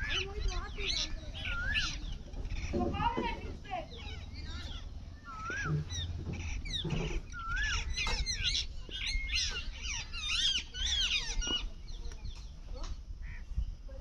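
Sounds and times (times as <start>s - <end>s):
parrots chattering and whistling: 0.0s - 12.4s.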